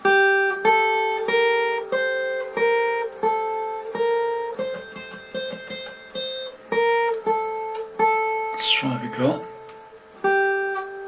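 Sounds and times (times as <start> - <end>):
acoustic guitar picking melody: 0.0 - 11.0.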